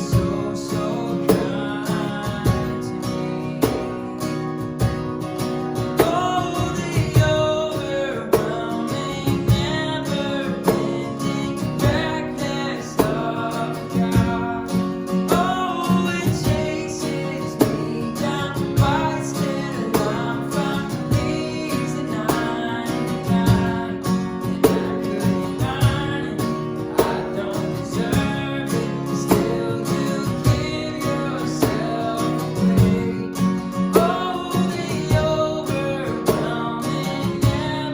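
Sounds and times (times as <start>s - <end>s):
strummed acoustic guitar: 0.0s - 37.9s
percussion hits: 1.2s - 2.9s, 3.6s - 10.0s, 10.6s - 28.6s, 29.2s - 37.9s
person singing: 5.7s - 37.9s.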